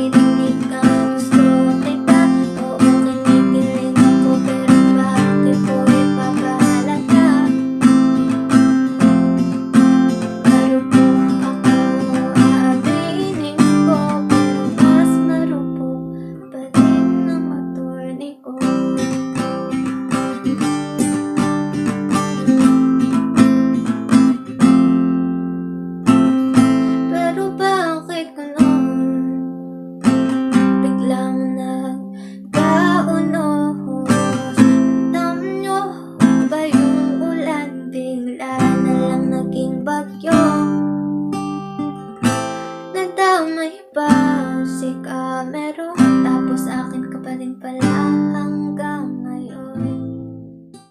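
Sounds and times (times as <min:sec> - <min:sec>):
acoustic guitar music: 0:00.0 - 0:50.9.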